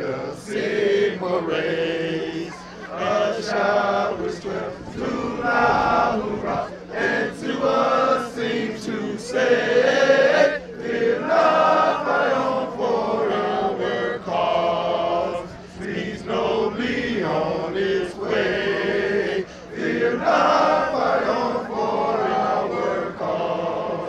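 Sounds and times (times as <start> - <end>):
men singing in unison: 0.0 - 24.0.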